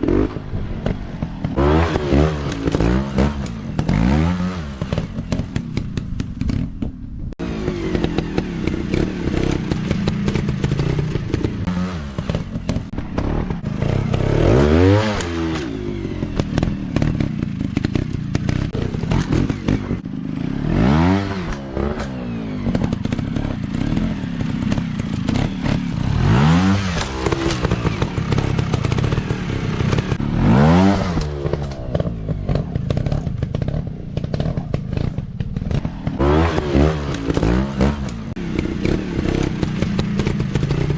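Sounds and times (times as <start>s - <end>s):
dirt bike engine revving: 0.0s - 6.5s, 7.4s - 40.9s.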